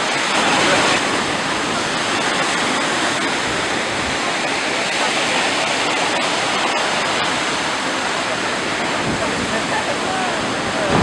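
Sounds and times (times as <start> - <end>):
waves washing on shore: 0.0 - 11.0.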